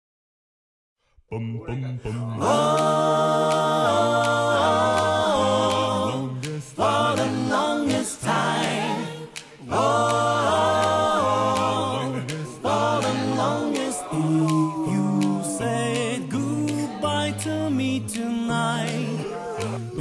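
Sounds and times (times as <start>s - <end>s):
a capella voices singing: 1.3s - 20.0s.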